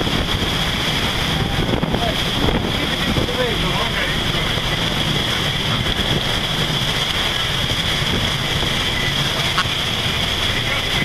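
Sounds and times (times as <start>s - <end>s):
rough sea breaking: 0.0s - 11.0s
storm wind: 0.0s - 11.0s
wind buffeting microphone: 0.0s - 11.0s.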